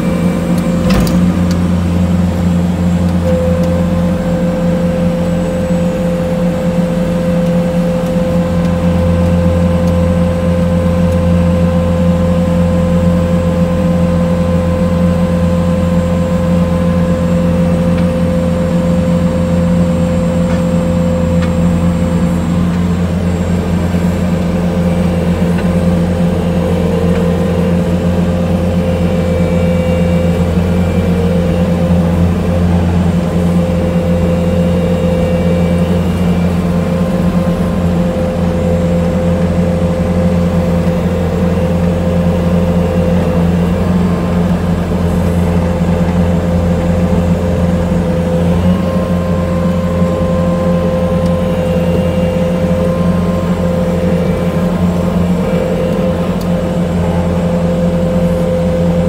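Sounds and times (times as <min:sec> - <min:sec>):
diesel engine running: 0:00.0 - 0:59.0
hydraulic auger boring soil: 0:00.0 - 0:59.0.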